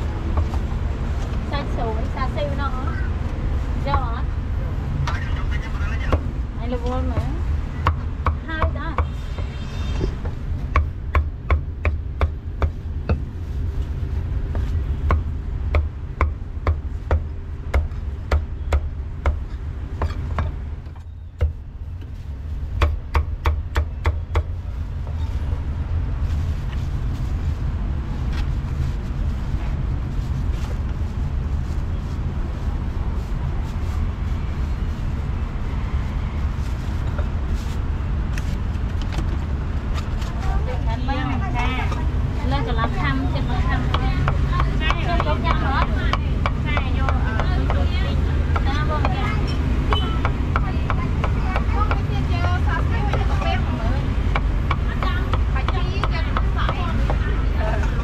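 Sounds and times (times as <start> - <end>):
low street traffic rumble: 0.0 - 58.0.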